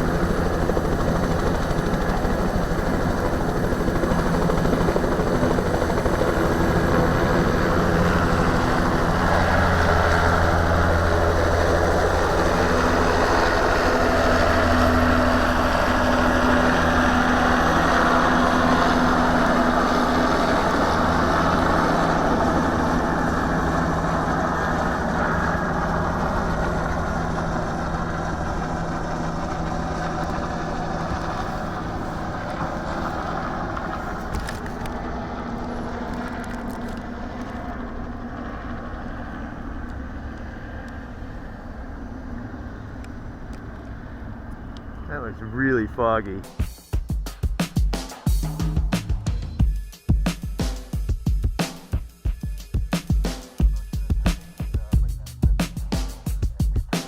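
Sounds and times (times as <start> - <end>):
helicopter turbine engine running: 0.0 - 57.0.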